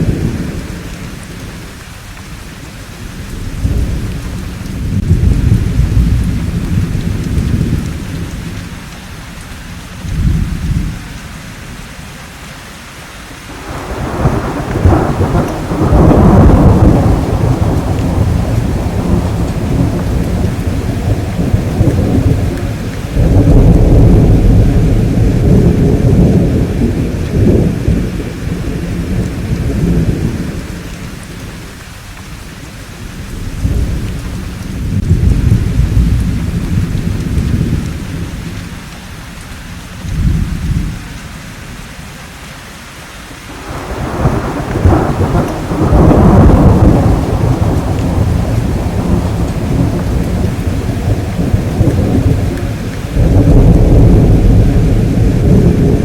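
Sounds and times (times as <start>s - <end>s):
thunder rumbling: 0.0s - 11.8s, 13.5s - 41.8s, 43.5s - 56.0s
steady rain: 0.0s - 56.0s.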